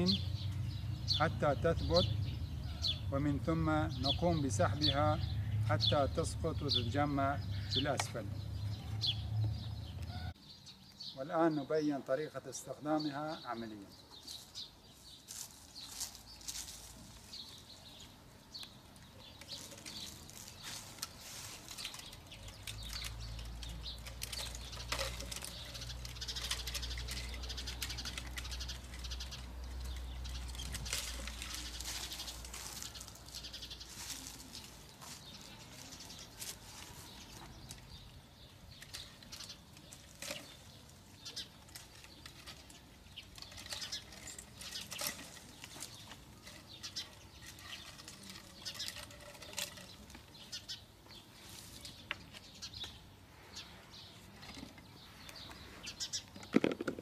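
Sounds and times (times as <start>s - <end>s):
branches rustling against pole: 0.0s - 57.0s.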